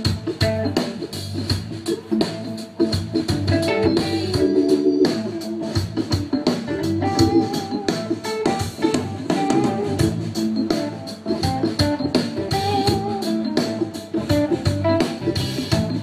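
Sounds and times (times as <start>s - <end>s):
guitar bent notes: 0.0s - 16.0s
live rock band playing: 0.0s - 16.0s.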